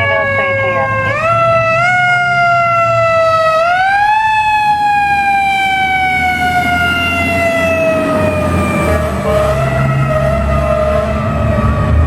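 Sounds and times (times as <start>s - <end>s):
fire truck siren wailing: 0.0s - 12.0s
truck rumbling: 0.0s - 12.0s.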